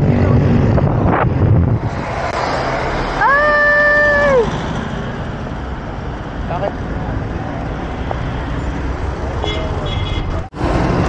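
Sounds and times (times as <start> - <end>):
wind rushing over microphone: 0.0 - 9.2.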